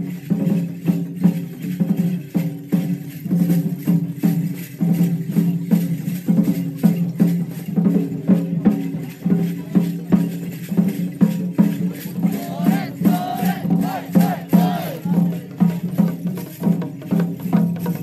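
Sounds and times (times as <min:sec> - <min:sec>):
taiko drum beating: 0:00.3 - 0:18.0.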